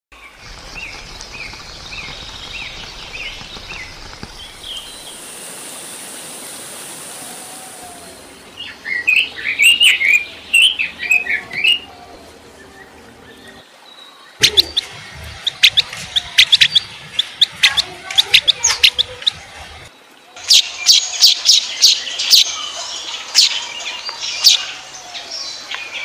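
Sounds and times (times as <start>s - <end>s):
songbirds singing: 0.2s - 26.0s
steady background hiss: 0.2s - 26.0s.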